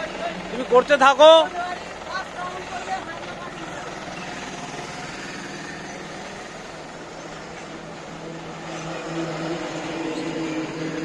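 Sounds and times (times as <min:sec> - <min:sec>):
forklift engine hum: 0:00.0 - 0:11.0.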